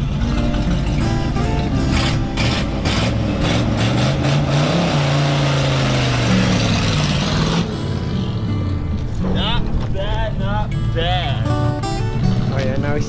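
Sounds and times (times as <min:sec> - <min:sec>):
pickup truck engine revving: 0:00.0 - 0:12.5.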